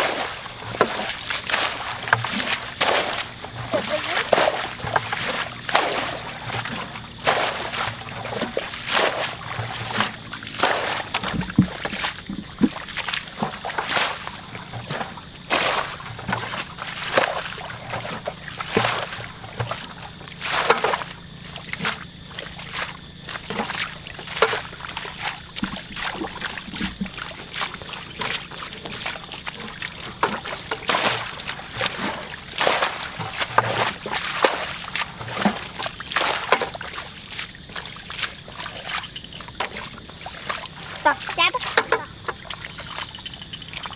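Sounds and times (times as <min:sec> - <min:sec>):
water scooped and splashing: 0:00.0 - 0:43.9
water sloshing and trickling: 0:00.0 - 0:43.9.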